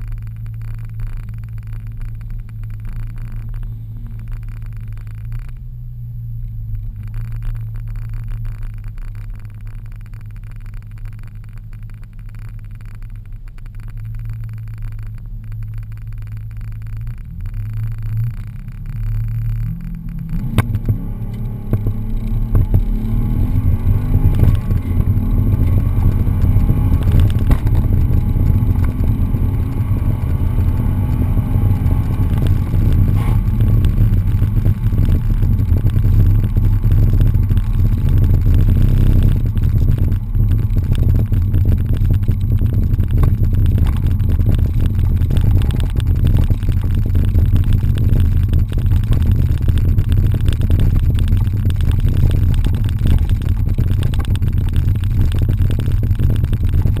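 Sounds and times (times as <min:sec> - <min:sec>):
car engine rumble from cabin: 0:00.0 - 0:57.0
road noise: 0:00.0 - 0:57.0.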